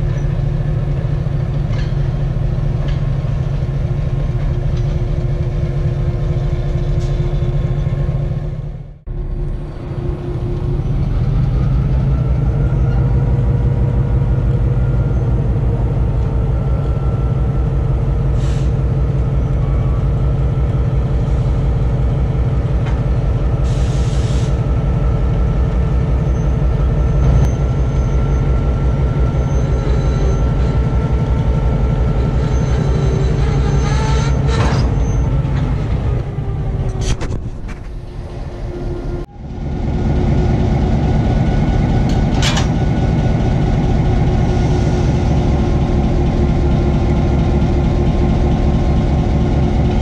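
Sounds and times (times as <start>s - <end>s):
diesel locomotive engine throbbing: 0.0s - 50.0s.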